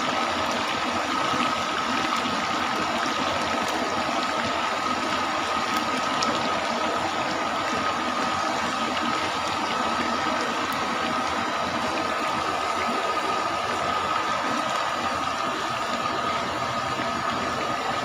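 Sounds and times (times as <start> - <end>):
oil sizzling in a wok: 0.0 - 18.0.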